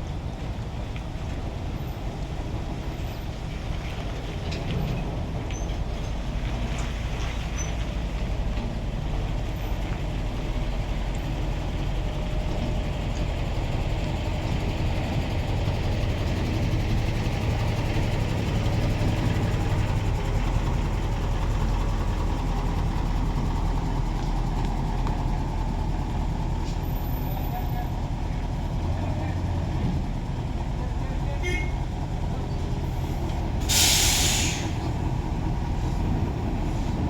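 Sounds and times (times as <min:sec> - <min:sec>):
truck diesel engine rumbling: 0:00.0 - 0:37.0.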